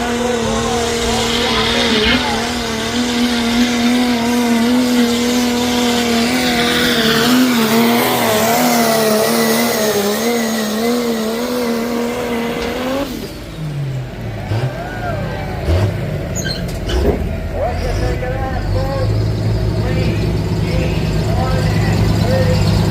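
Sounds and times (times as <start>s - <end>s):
truck engine at high revs: 0.0s - 22.9s.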